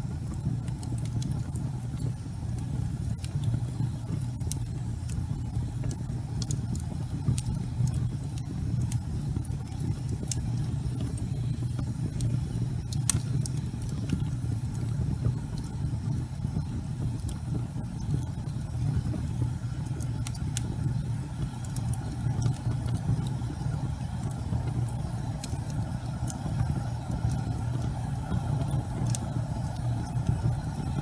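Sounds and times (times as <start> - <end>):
logs burning in fireplace: 0.0 - 31.0.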